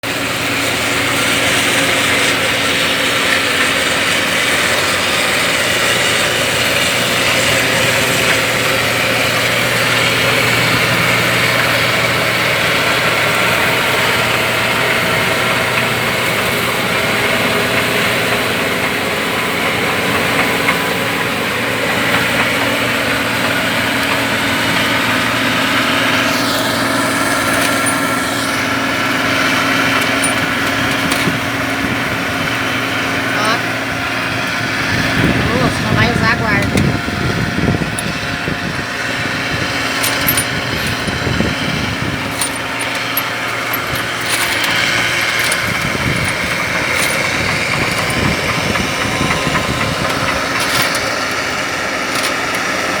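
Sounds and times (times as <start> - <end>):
diesel engine rumbling: 0.0 - 53.0.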